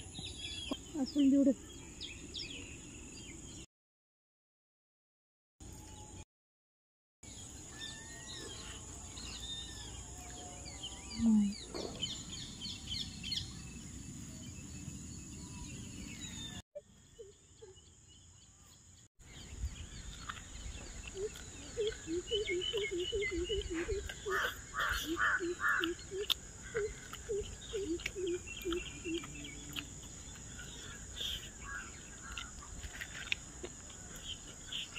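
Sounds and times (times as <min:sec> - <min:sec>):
birds chirping and calling: 0:00.0 - 0:03.7, 0:07.3 - 0:34.9.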